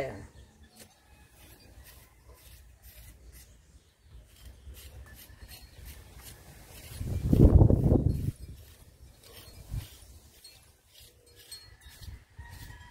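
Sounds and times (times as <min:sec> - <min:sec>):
rib scraping clay bowl: 0:00.0 - 0:12.9.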